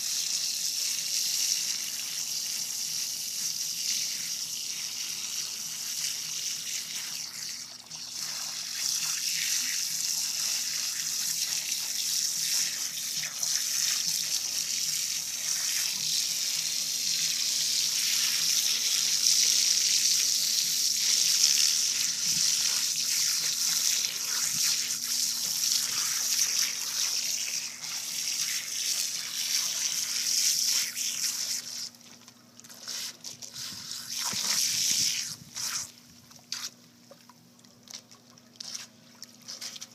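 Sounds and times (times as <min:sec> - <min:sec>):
hose water splashing: 0:00.0 - 0:37.3, 0:37.9 - 0:39.9.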